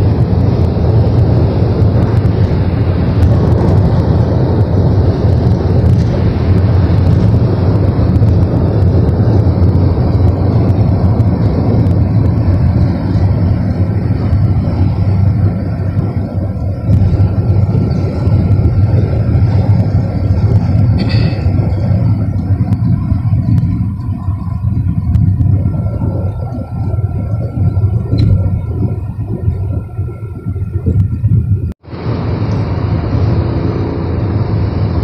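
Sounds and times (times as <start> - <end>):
car interior road noise: 0.0 - 35.0.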